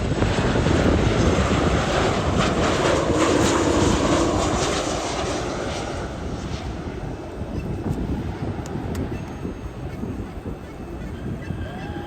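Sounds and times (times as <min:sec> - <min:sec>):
jet airliner engine roar: 0:00.0 - 0:12.0.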